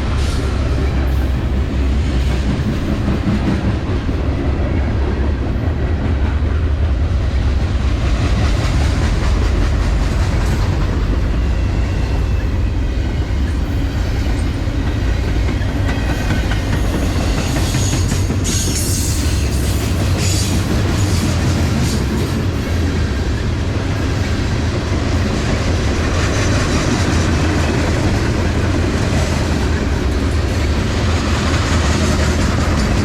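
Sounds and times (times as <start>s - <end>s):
train rumble: 0.0s - 33.0s
wheels clickety-clack on rails: 0.0s - 33.0s.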